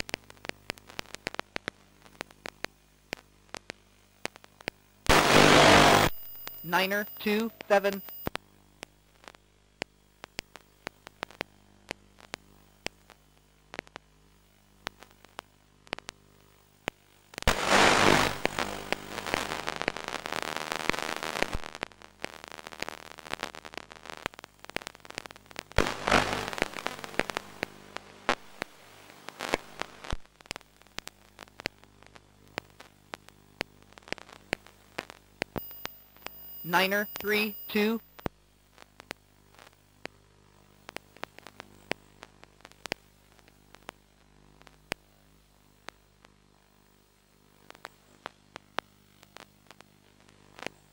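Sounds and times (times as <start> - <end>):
crackling radio static: 0.0 - 50.9
loud static hiss: 0.0 - 50.9
sharp static clicks: 0.0 - 50.9.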